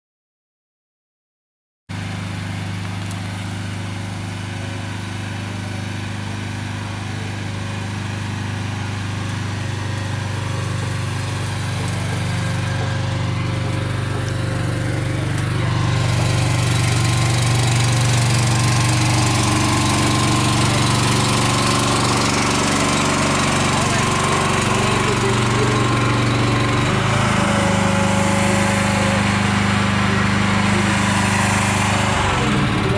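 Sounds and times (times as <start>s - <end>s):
diesel engine idling: 1.9s - 32.9s.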